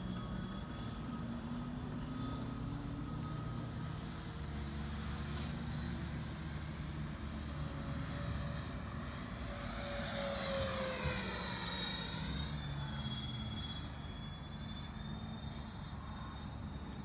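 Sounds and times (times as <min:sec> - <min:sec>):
model jet fans whining: 0:00.0 - 0:17.0.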